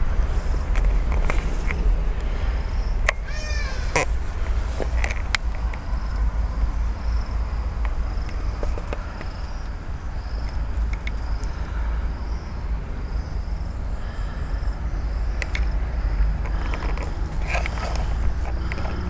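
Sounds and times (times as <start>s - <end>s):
insect chirping: 0.0s - 19.0s
wind rumbling on microphone: 0.0s - 19.0s.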